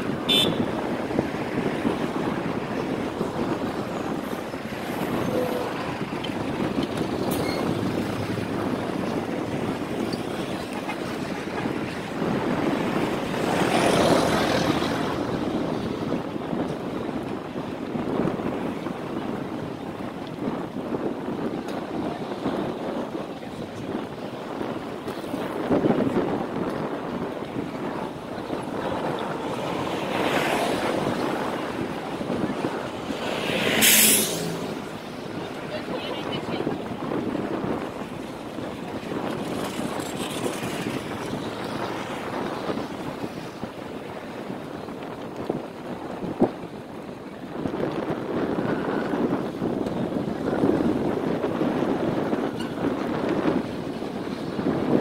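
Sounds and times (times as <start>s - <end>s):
outdoor rushing noise: 0.0s - 55.0s
street traffic: 0.0s - 55.0s
wind buffeting microphone: 0.0s - 55.0s.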